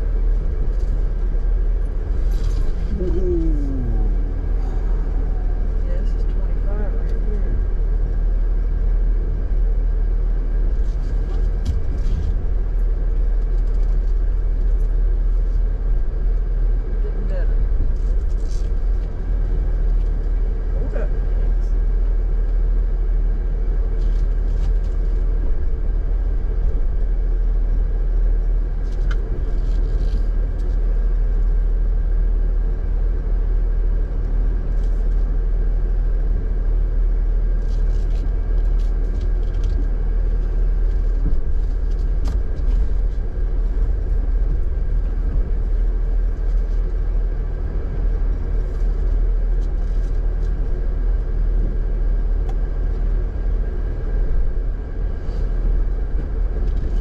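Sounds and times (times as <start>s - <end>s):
engine rumbling at low speed: 0.0s - 57.0s.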